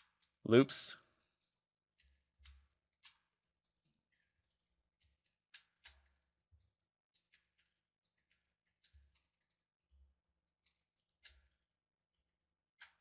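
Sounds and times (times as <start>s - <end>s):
keyboard and mouse clicks: 0.0s - 13.0s.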